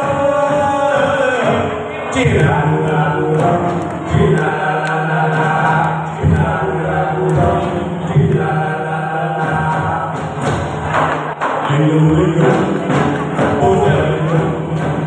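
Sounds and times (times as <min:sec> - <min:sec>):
bamboo instruments: 0:00.0 - 0:15.0
group singing folk song: 0:00.0 - 0:15.0
strong drum beat: 0:00.0 - 0:15.0.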